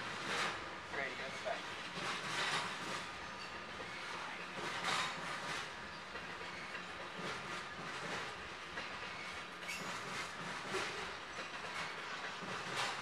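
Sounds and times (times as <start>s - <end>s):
freight train rushing: 0.0s - 13.0s.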